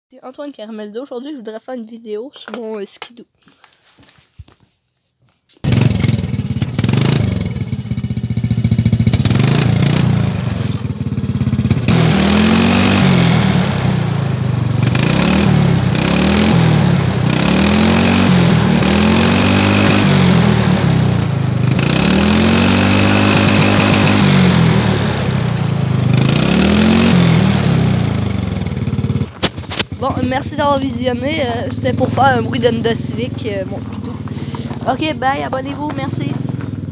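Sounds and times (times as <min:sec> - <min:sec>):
snowmobile engine revving: 0:05.7 - 0:36.9.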